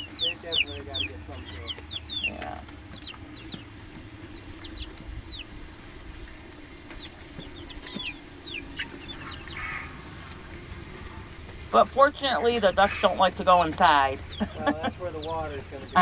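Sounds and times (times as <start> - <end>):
chicks peeping: 0.0 - 16.0
low steady hum: 0.0 - 16.0.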